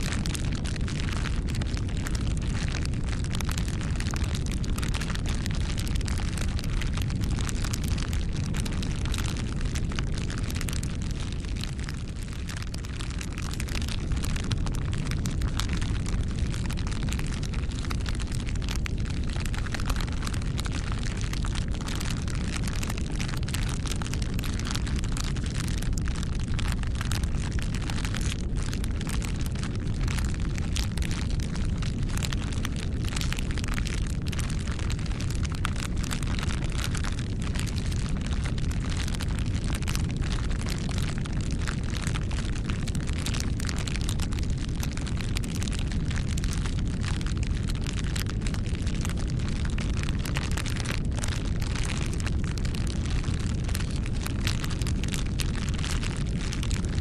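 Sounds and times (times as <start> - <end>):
wood fire crackling: 0.0 - 56.8.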